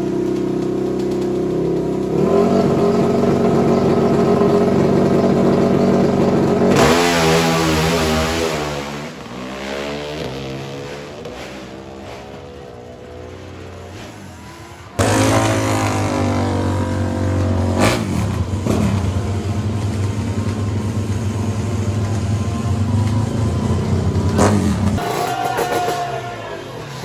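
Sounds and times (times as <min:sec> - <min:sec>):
motorcycle engine running loud: 0:00.0 - 0:27.0.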